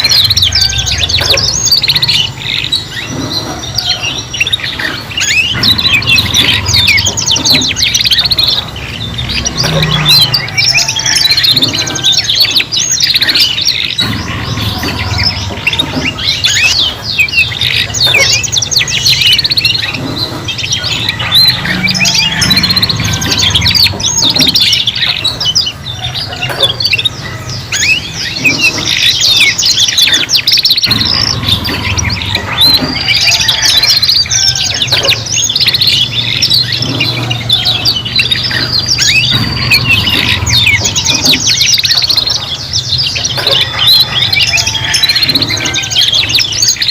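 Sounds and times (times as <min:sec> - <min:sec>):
canaries singing: 0:00.0 - 0:46.9.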